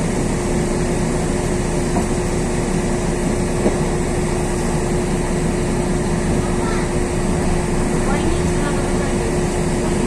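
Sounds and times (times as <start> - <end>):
bus engine and road rumble: 0.0 - 10.0
constant hum: 0.0 - 10.0.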